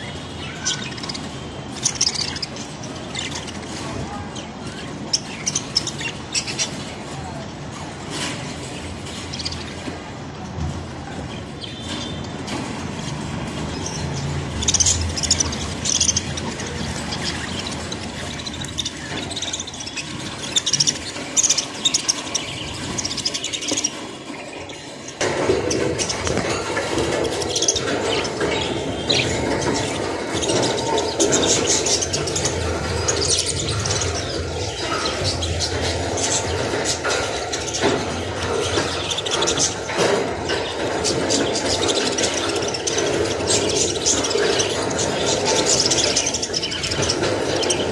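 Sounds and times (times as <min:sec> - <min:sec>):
budgerigars chirping and chattering: 0:00.0 - 0:47.9.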